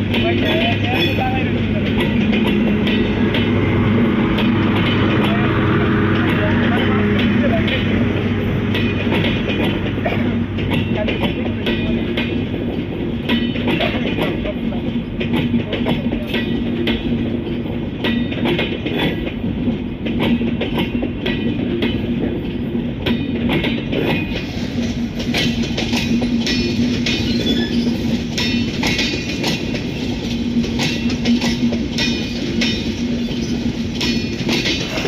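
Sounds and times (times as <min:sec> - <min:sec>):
low train hum: 0:00.0 - 0:35.0
train wheels clacking on rails: 0:00.0 - 0:35.0
wheel and rail ringing: 0:00.0 - 0:35.0.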